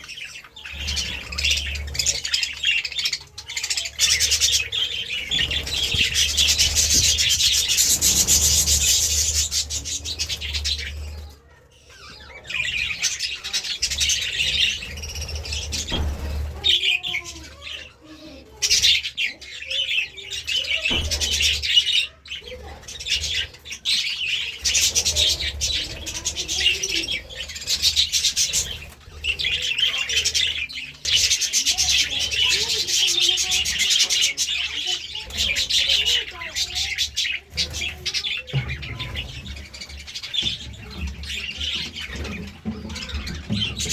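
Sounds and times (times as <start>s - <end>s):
budgerigars chattering and chirping: 0.0s - 43.9s.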